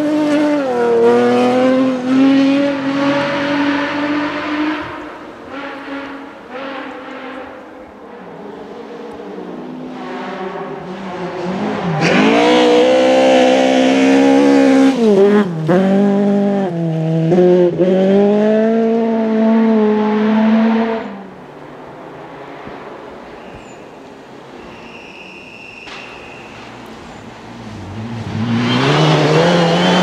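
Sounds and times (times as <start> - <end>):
rally car engine at full throttle: 0.0 - 23.8, 26.5 - 30.0.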